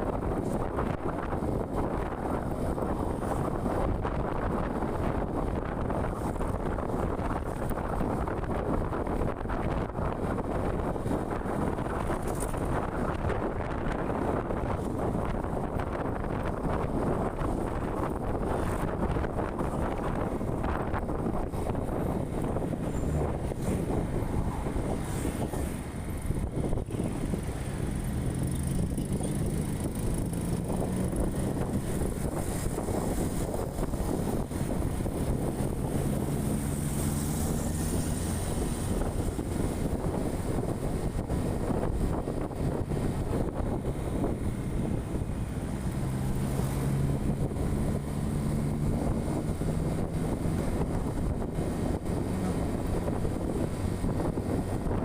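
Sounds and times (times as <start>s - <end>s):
vehicle engine running: 0.0s - 55.0s
wind noise on microphone: 0.0s - 55.0s.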